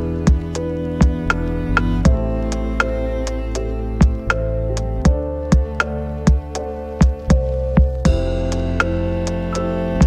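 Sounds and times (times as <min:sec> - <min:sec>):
synthesizer chords over electronic beat: 0:00.0 - 0:10.0.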